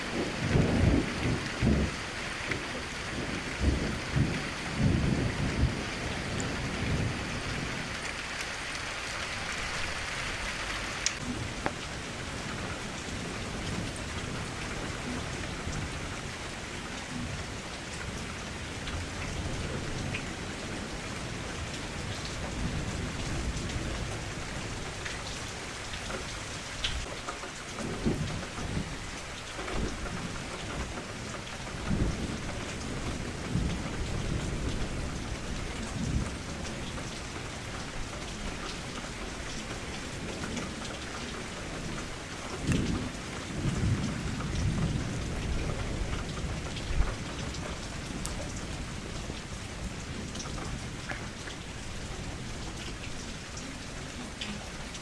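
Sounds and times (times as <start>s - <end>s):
low rumbles of thunder: 0.0s - 8.1s, 11.2s - 27.1s, 27.7s - 53.9s
rain against a window: 0.0s - 55.0s.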